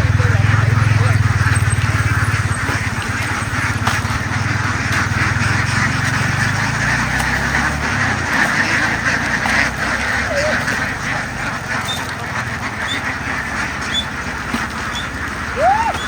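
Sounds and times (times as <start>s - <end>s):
flock of ducks quacking: 0.0s - 16.0s.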